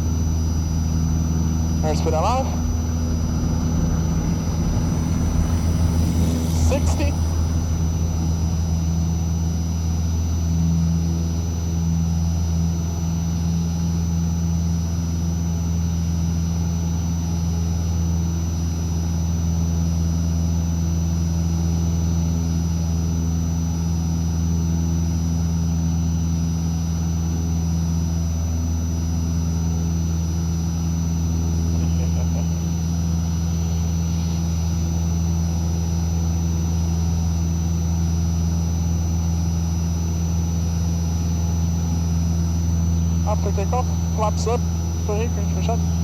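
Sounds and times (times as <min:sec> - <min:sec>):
light aircraft engine droning: 0:00.0 - 0:46.0.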